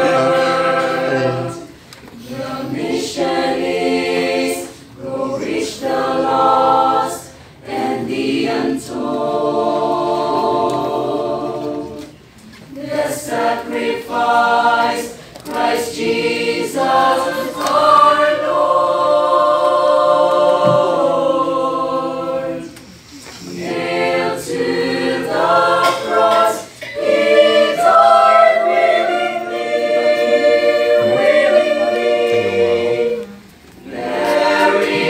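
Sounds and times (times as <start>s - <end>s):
small choir singing: 0.0s - 35.0s.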